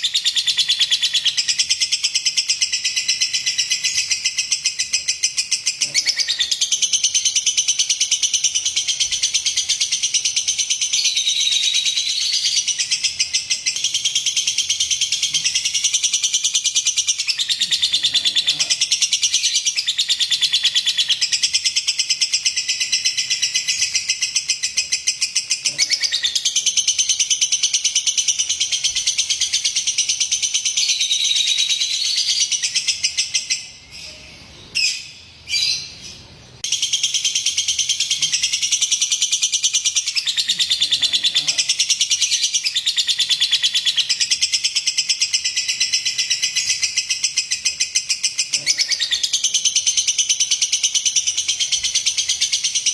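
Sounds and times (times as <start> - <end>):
lovebird chattering trill: 0.0 - 52.9.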